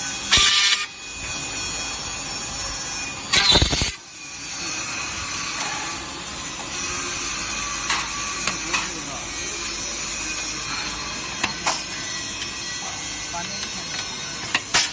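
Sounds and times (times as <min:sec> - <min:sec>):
drill spindle motor running: 0:00.0 - 0:14.7.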